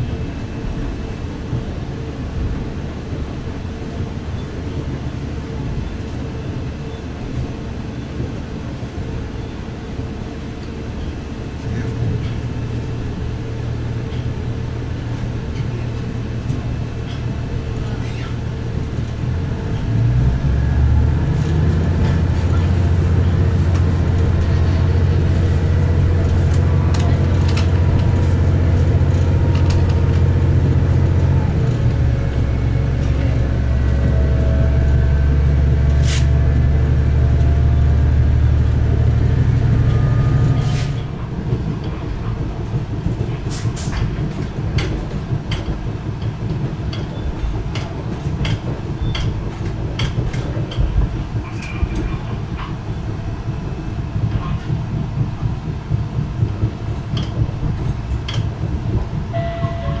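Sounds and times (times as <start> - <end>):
diesel railcar engine drone: 0.0 - 60.0.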